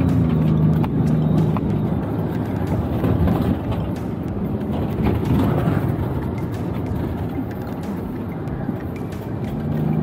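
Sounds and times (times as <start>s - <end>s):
engine and tyres on dirt: 0.0s - 10.0s.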